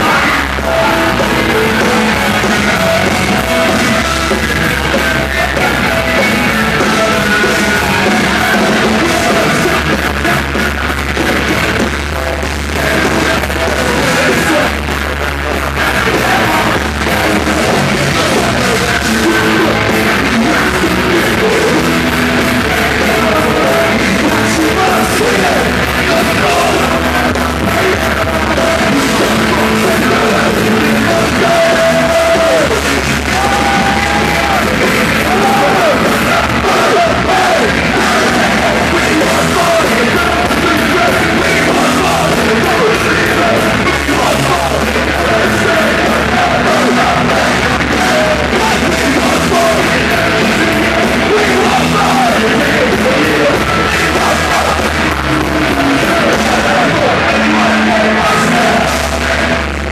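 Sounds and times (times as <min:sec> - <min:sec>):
distorted guitars: 0:00.0 - 0:59.9
drums: 0:00.0 - 0:59.9
shouted lead vocal: 0:00.0 - 0:59.9.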